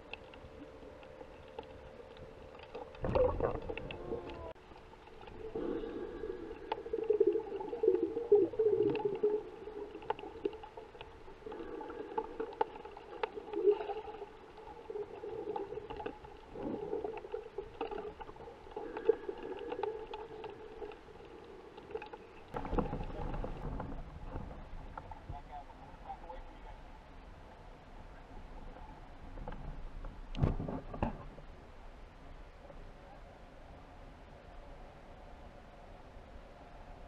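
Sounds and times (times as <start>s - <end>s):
muffled underwater hum: 0.0s - 37.0s.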